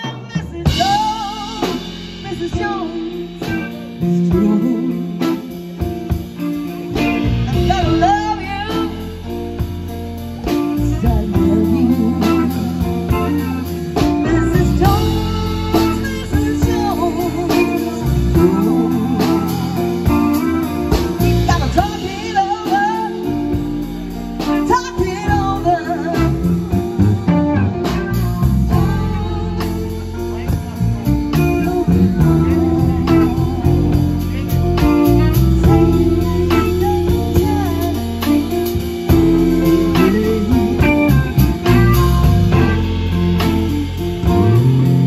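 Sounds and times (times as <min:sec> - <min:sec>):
woman singing: 0:00.0 - 0:44.9
live band playing soul ballad: 0:00.0 - 0:45.0.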